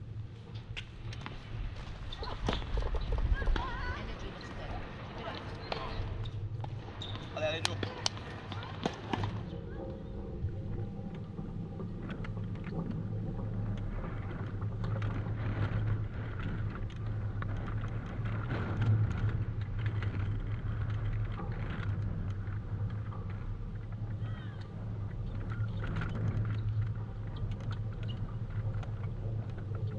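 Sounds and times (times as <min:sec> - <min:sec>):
low rumble: 0:00.0 - 0:29.9.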